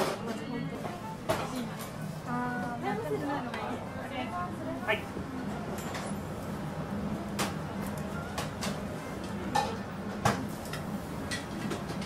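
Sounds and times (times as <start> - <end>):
kitchen equipment hum: 0.0 - 12.0.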